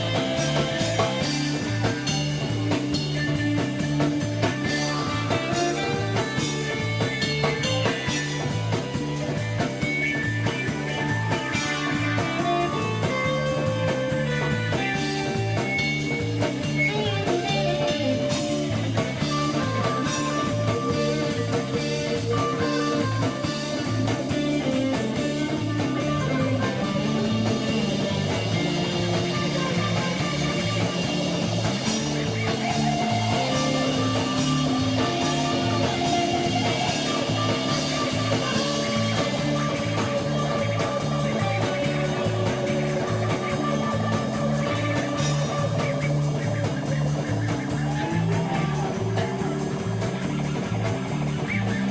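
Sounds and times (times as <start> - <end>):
bass guitar: 0.0 - 51.9
drums steady beat: 0.0 - 51.9
electric guitar melodic lines: 0.0 - 51.9.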